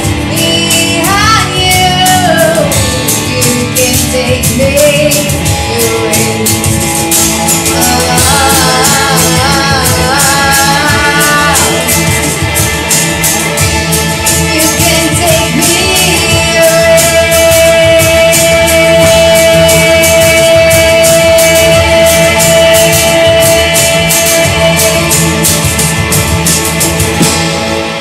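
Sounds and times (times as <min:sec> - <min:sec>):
woman singing: 0:00.0 - 0:12.6, 0:13.8 - 0:25.7
drum kit with cymbals: 0:00.0 - 0:28.0
electric guitar: 0:00.0 - 0:28.0.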